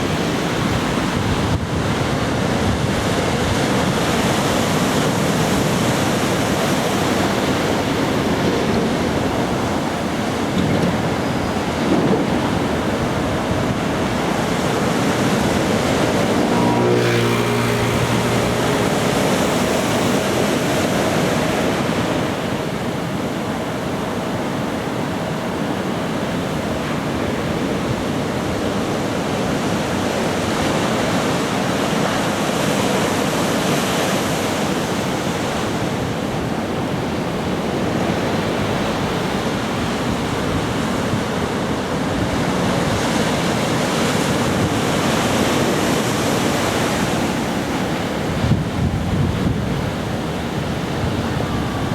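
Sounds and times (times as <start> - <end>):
waves breaking on beach: 0.0 - 51.9.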